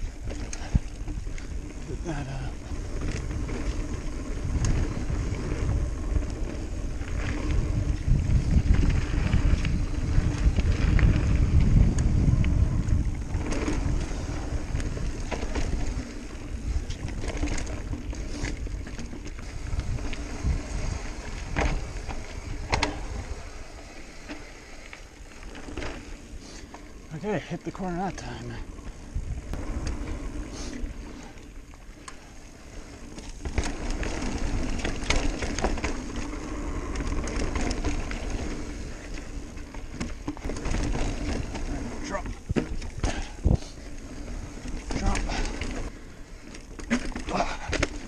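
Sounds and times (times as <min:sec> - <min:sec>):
bike knocking and rattling: 0:00.0 - 0:48.0
bike tyres on dirt: 0:00.0 - 0:48.0
wind rumbling on microphone: 0:00.0 - 0:48.0.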